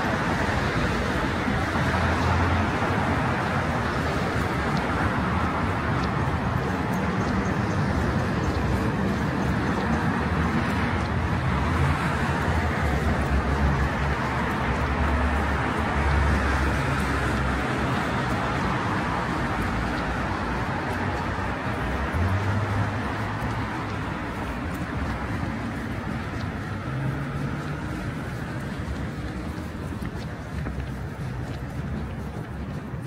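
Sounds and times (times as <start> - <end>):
road traffic noise: 0.0 - 33.0.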